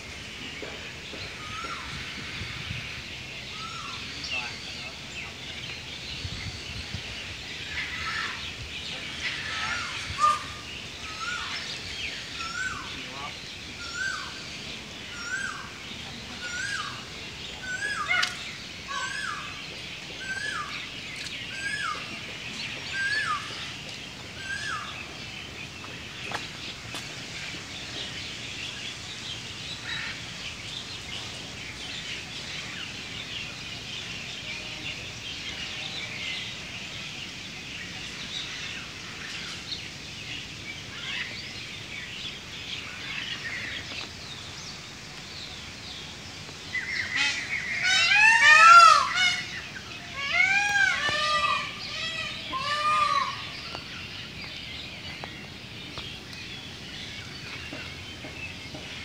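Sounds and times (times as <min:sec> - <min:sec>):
small birds chattering: 0:00.0 - 0:59.0.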